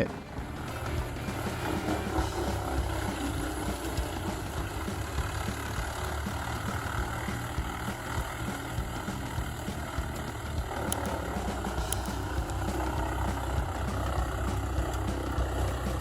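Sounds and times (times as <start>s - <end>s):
wood chipper diesel engine running: 0.0s - 16.0s.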